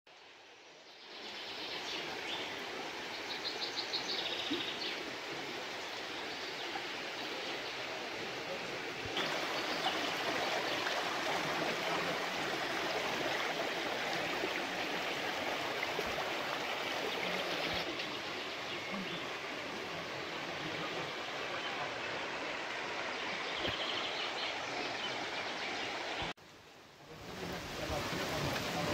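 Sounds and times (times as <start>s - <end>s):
stream rushing over stones: 0.2s - 26.3s, 27.1s - 28.9s.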